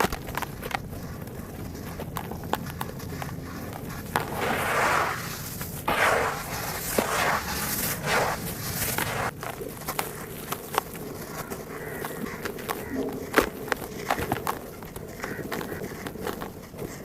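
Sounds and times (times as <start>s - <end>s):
dry dirt crunching: 0.0s - 17.0s.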